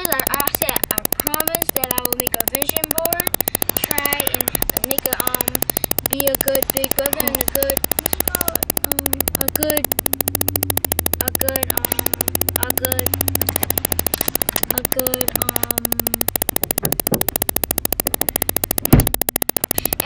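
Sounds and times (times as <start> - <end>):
fast even crackle: 0.0 - 20.0.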